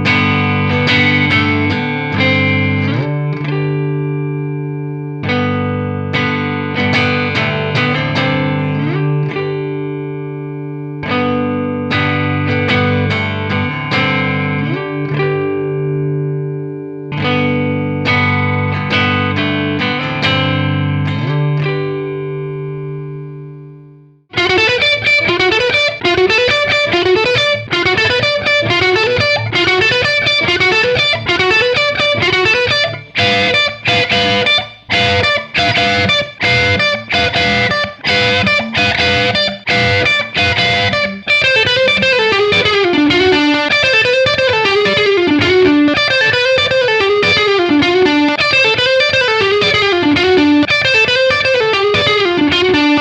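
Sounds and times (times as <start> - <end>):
electric guitar lead playing: 0.0 - 53.0.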